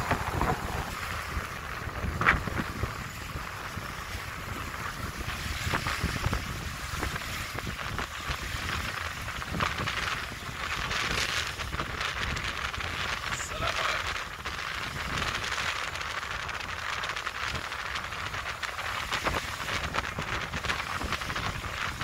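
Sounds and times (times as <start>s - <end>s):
small waves breaking on sand: 0.0s - 22.0s
wind buffeting microphone: 0.0s - 22.0s.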